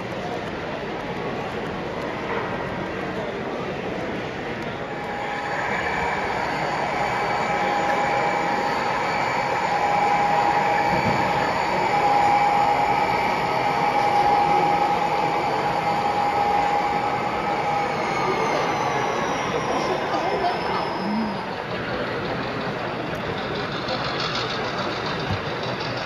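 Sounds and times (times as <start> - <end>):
model train hum: 0.0 - 26.0
model train whine: 0.0 - 26.0.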